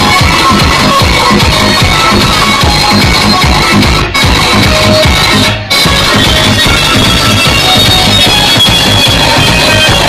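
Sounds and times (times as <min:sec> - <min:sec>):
electronic dance music with heavy bass: 0:00.0 - 0:10.0.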